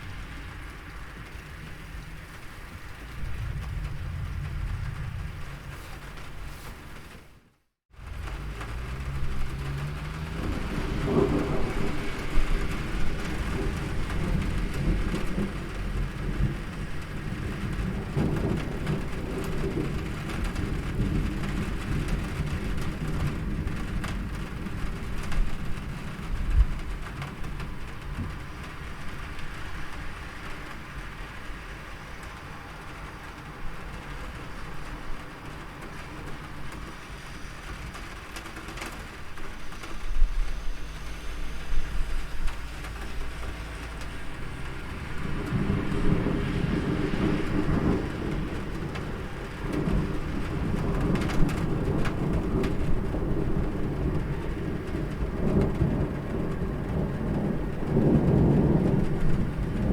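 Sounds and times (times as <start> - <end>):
rolling thunder rumble: 0.0 - 59.9
steady rain: 0.0 - 59.9.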